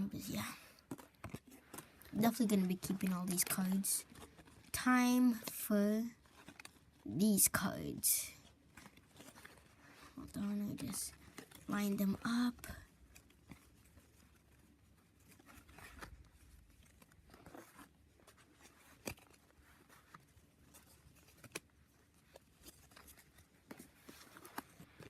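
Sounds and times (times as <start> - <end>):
cards rustling: 0.0 - 25.0.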